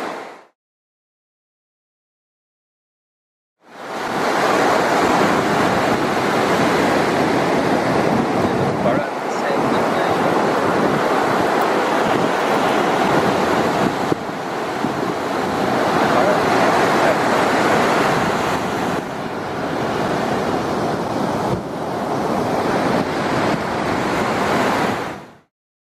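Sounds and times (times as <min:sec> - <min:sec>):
ocean surf on beach: 0:00.0 - 0:00.6, 0:03.6 - 0:25.5
wind buffeting microphone: 0:03.8 - 0:25.4.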